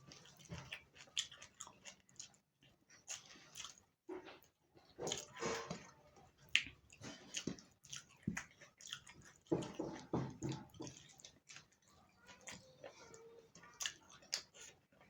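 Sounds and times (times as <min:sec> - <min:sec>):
wet chewing and mouth smacks: 0:00.0 - 0:15.0.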